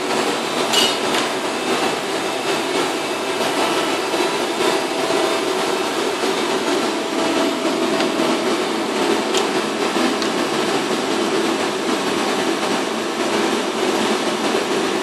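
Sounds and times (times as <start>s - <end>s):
hydraulic machine humming: 0.0s - 15.0s.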